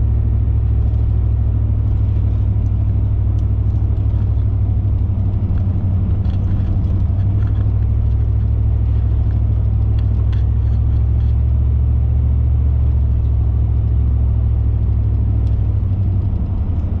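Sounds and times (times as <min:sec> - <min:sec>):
car engine rumble: 0:00.0 - 0:17.0
tyres on the road: 0:00.0 - 0:17.0.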